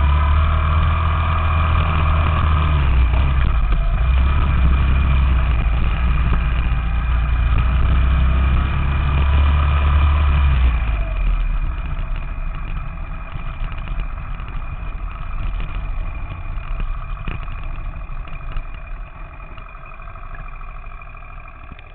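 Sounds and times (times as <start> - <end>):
minibike engine running: 0.0 - 21.9.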